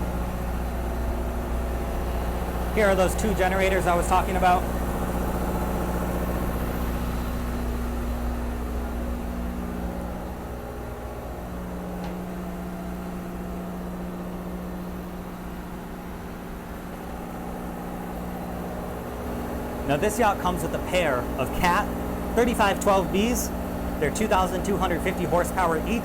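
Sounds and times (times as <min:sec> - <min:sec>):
diesel generator humming: 0:00.0 - 0:26.0.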